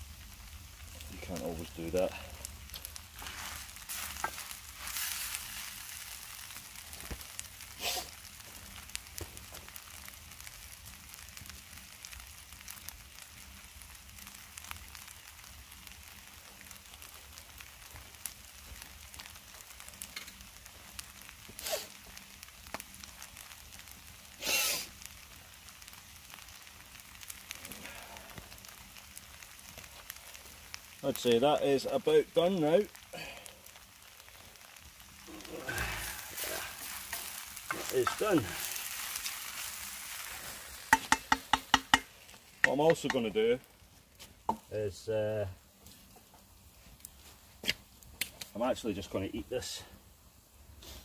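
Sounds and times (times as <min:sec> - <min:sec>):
noodles sizzling in a pan: 0:00.0 - 0:51.0.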